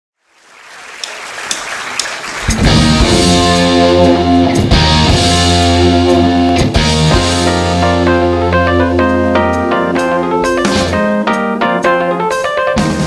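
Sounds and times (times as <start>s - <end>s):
rock band playing: 2.4s - 13.0s.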